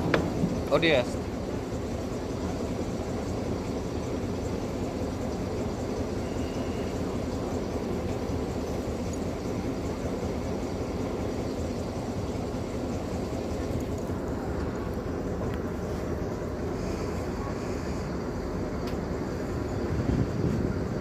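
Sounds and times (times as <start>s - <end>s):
train running gear rumble: 0.0s - 21.0s.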